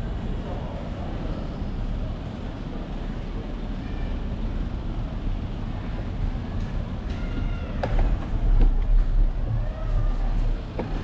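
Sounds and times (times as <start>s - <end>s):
road and traffic noise: 0.0s - 11.0s.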